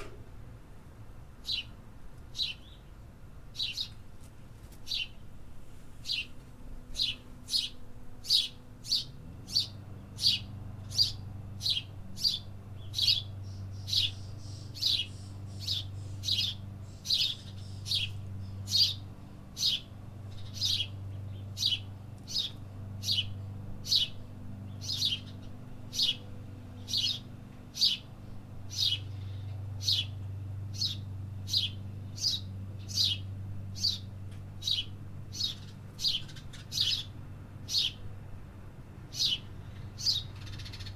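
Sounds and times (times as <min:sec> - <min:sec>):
low steady hum: 0:00.0 - 0:40.9
bird chirping: 0:01.4 - 0:02.9, 0:03.5 - 0:04.0, 0:04.8 - 0:05.2, 0:06.0 - 0:28.1, 0:28.7 - 0:38.0, 0:39.1 - 0:40.9.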